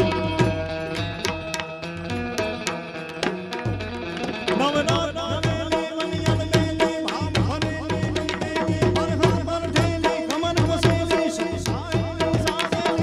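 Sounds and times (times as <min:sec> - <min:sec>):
tabla playing fast rhythm: 0:00.0 - 0:13.0.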